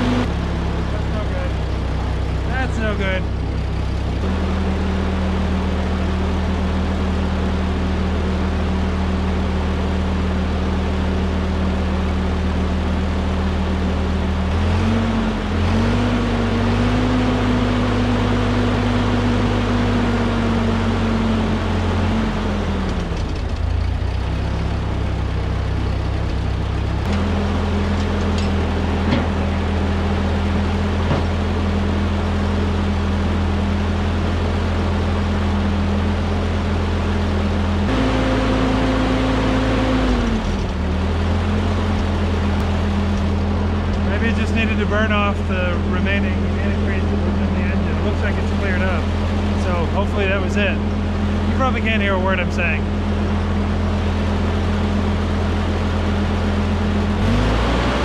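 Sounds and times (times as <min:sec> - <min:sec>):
tractor engine idling and revving: 0:00.0 - 0:58.0.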